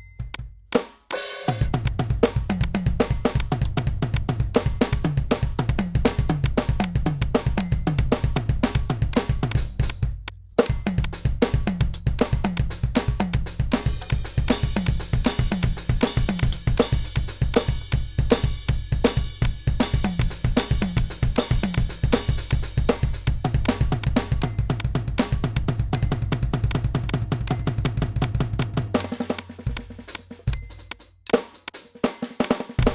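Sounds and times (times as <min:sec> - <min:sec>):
electronic drum kit playing: 0:00.2 - 0:32.9.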